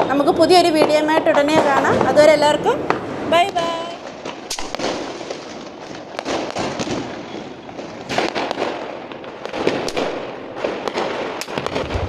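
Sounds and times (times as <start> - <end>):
distant firework bangs: 0.0 - 12.0
firecracker crackle: 0.0 - 12.0.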